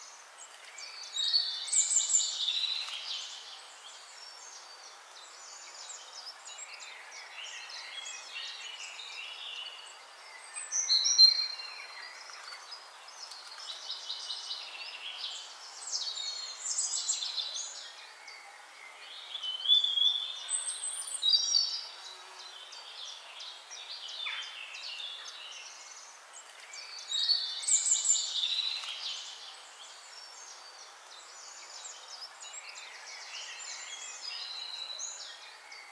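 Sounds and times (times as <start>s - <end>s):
songbirds singing and chirping: 0.0s - 35.9s
steady outdoor hiss: 0.0s - 35.9s.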